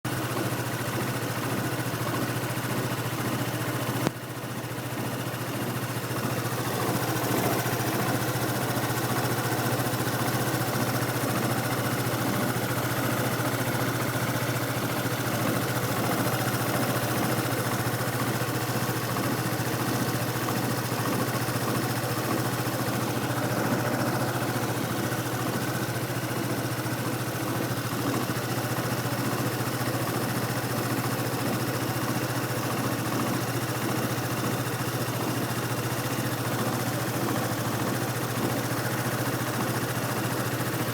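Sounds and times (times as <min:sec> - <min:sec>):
scooter engine idling: 0:00.0 - 0:40.9.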